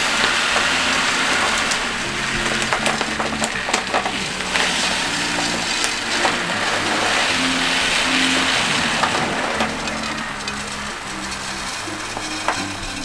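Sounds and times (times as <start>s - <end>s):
background music: 0.0s - 13.0s
soil pouring into glass tank: 0.0s - 13.0s.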